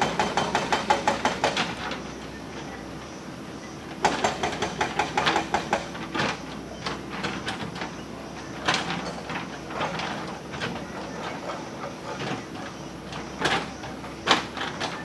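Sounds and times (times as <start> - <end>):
backhoe engine hum: 0.0 - 15.0.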